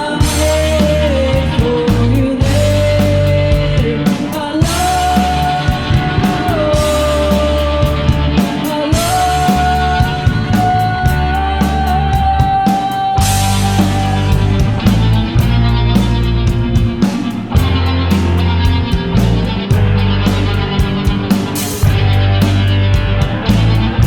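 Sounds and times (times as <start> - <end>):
held bass notes: 0.0 - 12.6, 13.2 - 24.0
drums and cymbals: 0.0 - 24.0
rock band playing: 0.0 - 24.0.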